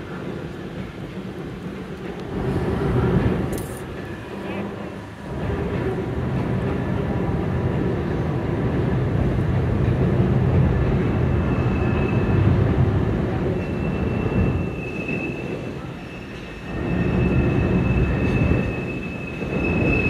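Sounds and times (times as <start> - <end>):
train cars rumbling over bridge: 0.0 - 20.0.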